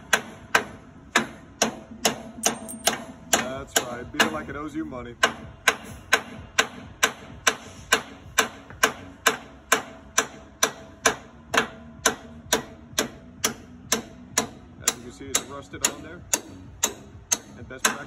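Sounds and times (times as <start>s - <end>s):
hammer blows ringing on steel: 0.0s - 4.4s, 5.2s - 18.0s.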